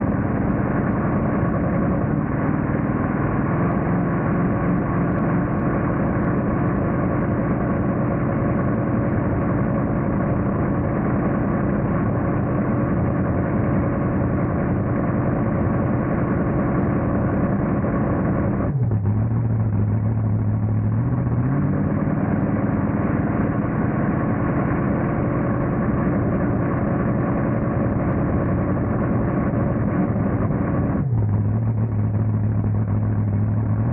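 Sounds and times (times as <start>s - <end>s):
monster truck engine running: 0.0s - 33.9s.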